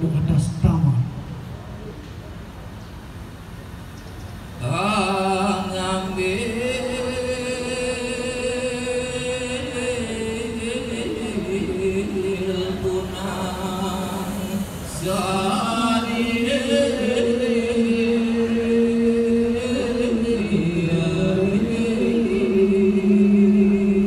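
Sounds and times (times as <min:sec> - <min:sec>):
man chanting: 0:04.6 - 0:24.0.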